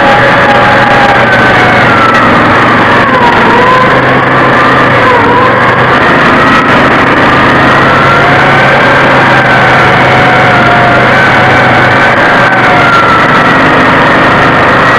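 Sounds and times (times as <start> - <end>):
vehicle engine whining: 0.0 - 14.9.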